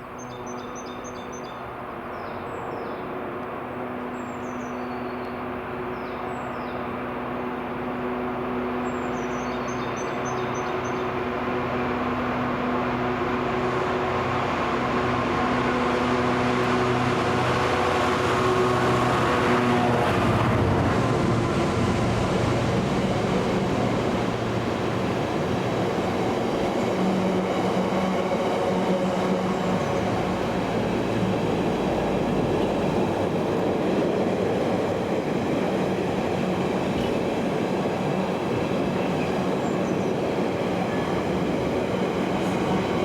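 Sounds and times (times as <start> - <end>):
diesel freight train engine: 0.0 - 43.0.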